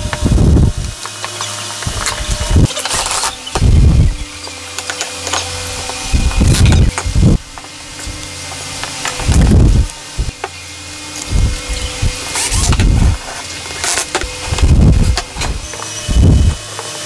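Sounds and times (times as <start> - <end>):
cordless drill running: 0.0 - 17.0.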